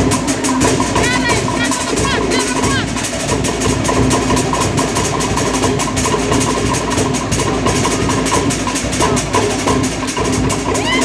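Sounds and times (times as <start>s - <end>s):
large bass drum: 0.0s - 11.0s
wooden slit drums playing fast: 0.0s - 11.0s.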